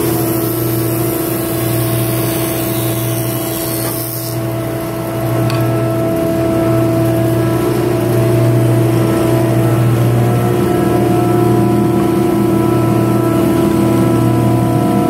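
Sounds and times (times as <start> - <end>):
dust collector running: 0.0 - 15.0
planer motor hum: 0.0 - 15.0.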